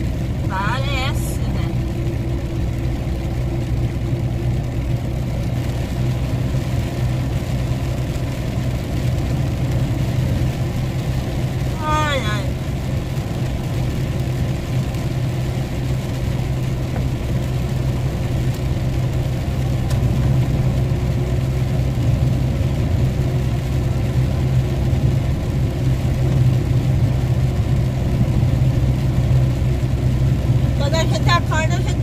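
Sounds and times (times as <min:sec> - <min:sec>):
road noise: 0:00.0 - 0:32.0
truck diesel engine droning: 0:00.0 - 0:32.0.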